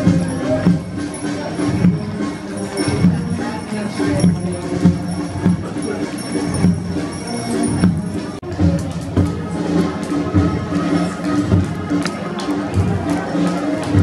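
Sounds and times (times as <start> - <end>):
bells jingling: 0.0 - 14.0
parade band march music: 0.0 - 14.0.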